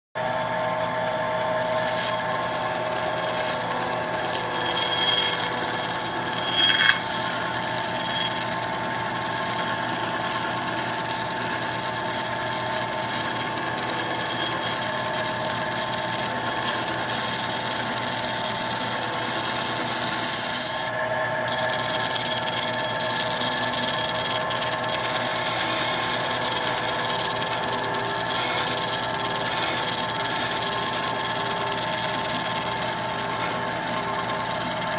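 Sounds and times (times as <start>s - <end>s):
band saw cutting foam: 1.6s - 34.9s.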